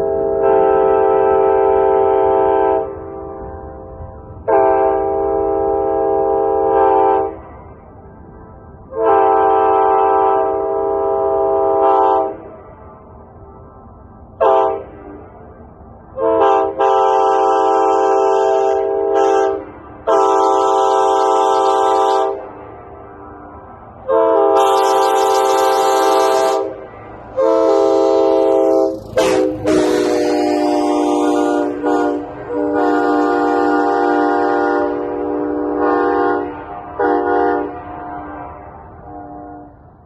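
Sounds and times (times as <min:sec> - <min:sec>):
train horn blasts: 0:00.0 - 0:07.5, 0:08.9 - 0:12.7, 0:14.4 - 0:15.3, 0:16.1 - 0:22.6, 0:24.0 - 0:40.0.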